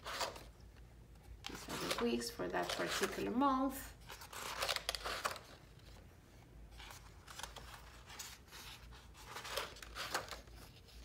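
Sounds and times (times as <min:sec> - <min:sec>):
paper pages rustling: 0:00.0 - 0:06.0, 0:06.7 - 0:11.0.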